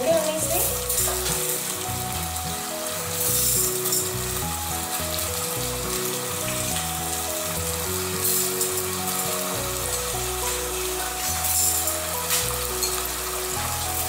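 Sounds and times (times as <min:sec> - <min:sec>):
background music: 0:00.0 - 0:14.0
food sizzling in hot oil: 0:00.0 - 0:14.0.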